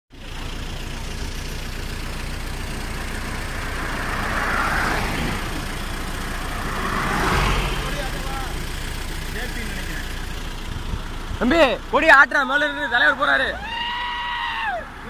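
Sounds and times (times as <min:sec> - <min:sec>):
vehicles passing on highway: 0:00.1 - 0:15.0.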